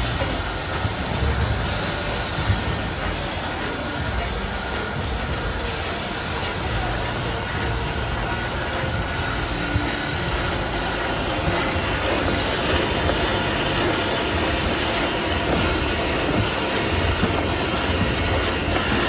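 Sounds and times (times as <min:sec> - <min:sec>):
band saw cutting machine running: 0:00.0 - 0:19.0.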